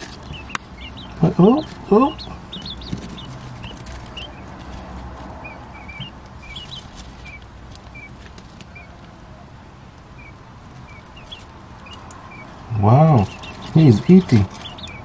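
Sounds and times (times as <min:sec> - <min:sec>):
faint background noise: 0:00.0 - 0:15.0
quail chicks peeping: 0:00.0 - 0:15.0.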